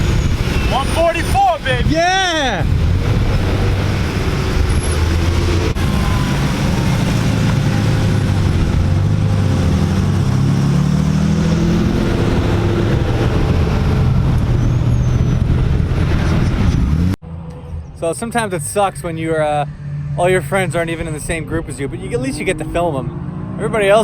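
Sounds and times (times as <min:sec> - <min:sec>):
car engine revving high: 0:02.6 - 0:17.2, 0:19.0 - 0:24.0.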